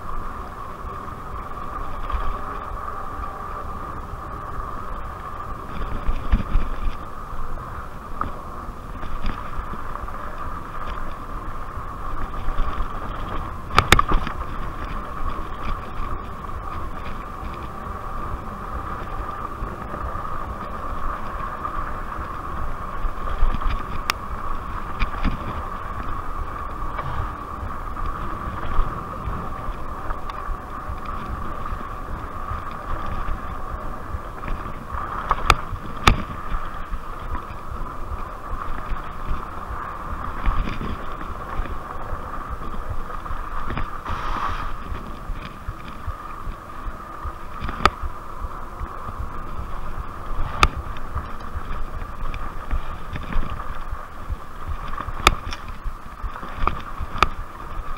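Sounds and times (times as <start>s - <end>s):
wind on microphone: 0.0s - 57.9s.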